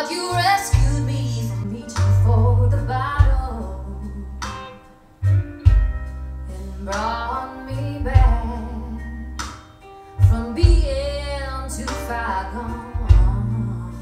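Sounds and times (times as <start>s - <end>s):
woman singing: 0.0s - 4.8s, 6.5s - 9.6s, 10.2s - 14.0s
guitar: 0.0s - 14.0s
deep bass hits: 0.7s - 4.6s, 5.2s - 9.6s, 10.2s - 14.0s.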